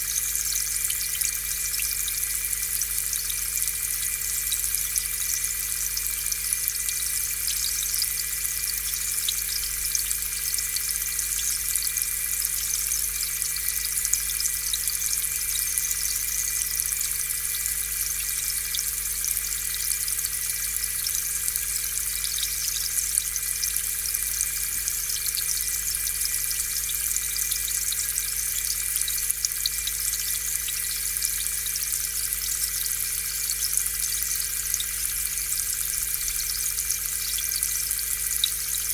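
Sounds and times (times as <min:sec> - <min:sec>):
faint electric hum: 0:00.0 - 0:38.9.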